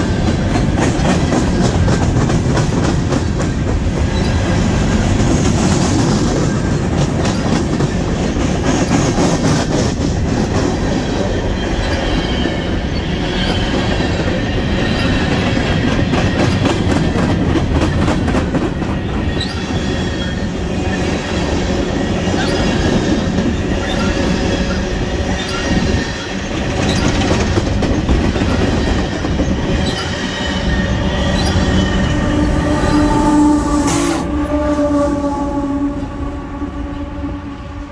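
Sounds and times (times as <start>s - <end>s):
wheels clicking at rail joints: 0.0s - 34.8s
locomotive steady tones: 0.0s - 37.9s
train cars rumbling: 0.0s - 37.9s.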